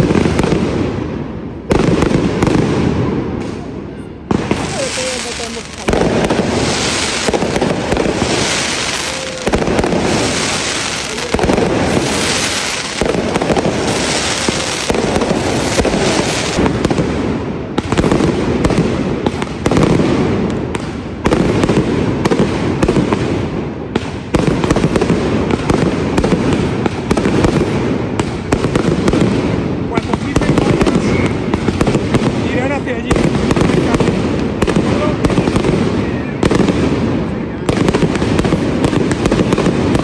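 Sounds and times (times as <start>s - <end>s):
crackling fireworks: 0.0s - 40.0s
firecracker bangs: 0.0s - 40.0s.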